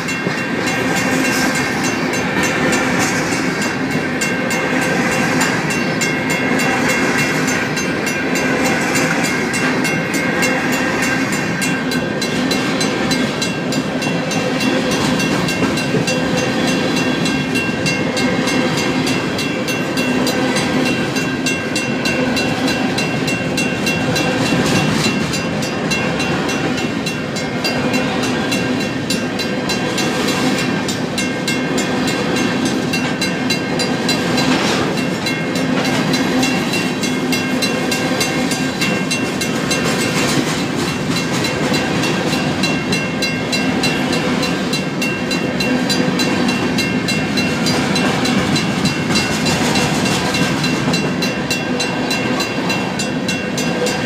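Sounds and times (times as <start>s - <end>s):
crossing bell ringing: 0.0s - 54.0s
train wheels rumbling on rails: 0.0s - 54.0s.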